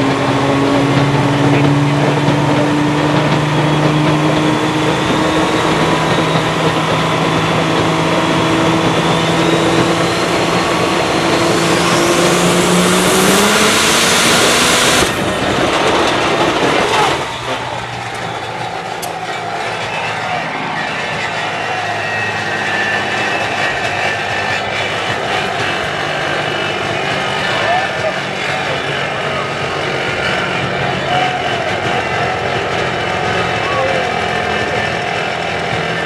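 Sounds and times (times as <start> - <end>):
diesel engine running at full power: 0.0 - 36.0
high turbo whine: 0.0 - 36.0.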